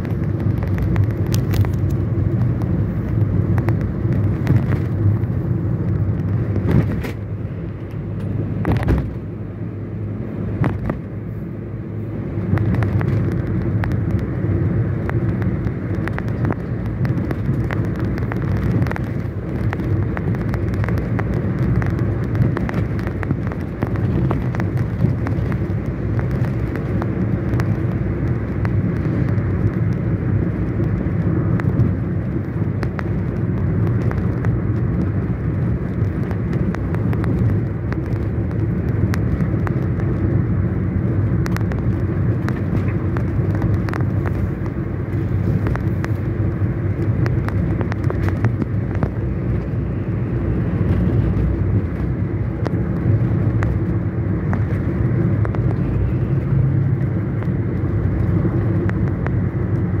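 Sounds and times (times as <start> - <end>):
car engine and tyre rumble: 0.0 - 60.0.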